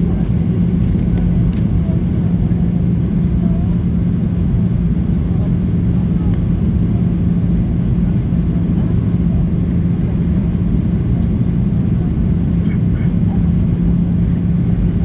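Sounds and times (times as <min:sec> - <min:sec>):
airplane cabin drone: 0:00.0 - 0:15.0.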